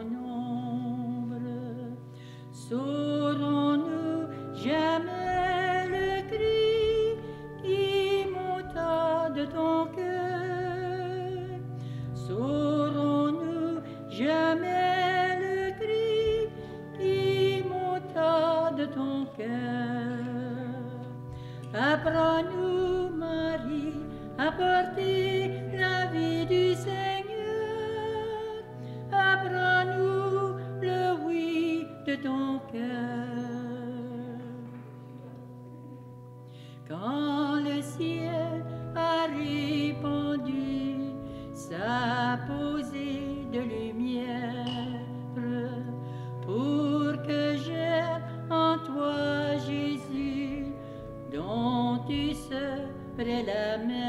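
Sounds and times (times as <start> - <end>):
person singing a hymn with vibrato: 0.0 - 36.0, 36.8 - 54.0
low held accompaniment: 0.0 - 54.0.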